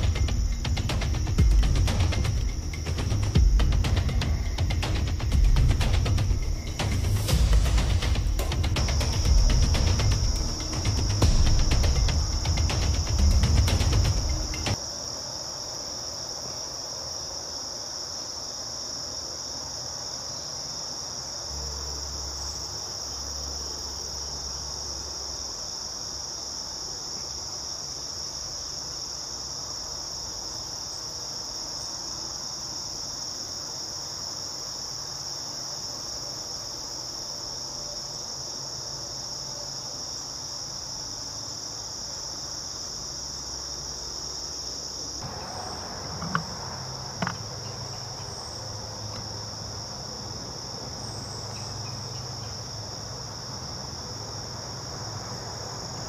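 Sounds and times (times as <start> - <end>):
insects chirring in woods: 0.0 - 56.0.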